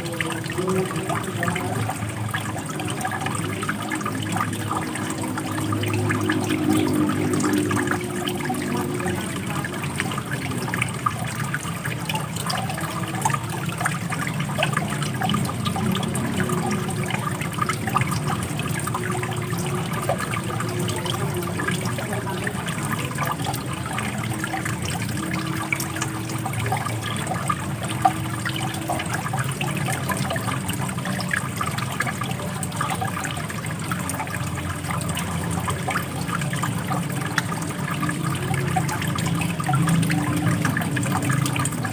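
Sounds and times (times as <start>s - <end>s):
running water splashing: 0.0s - 41.9s.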